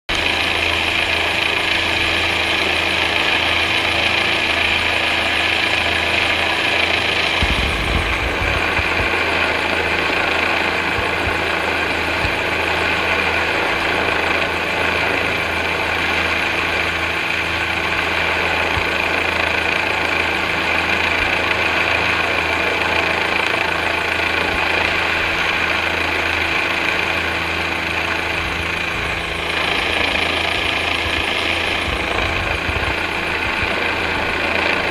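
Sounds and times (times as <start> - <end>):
helicopter rotor noise: 0.1 - 34.9
helicopter turbine whine: 0.1 - 34.9.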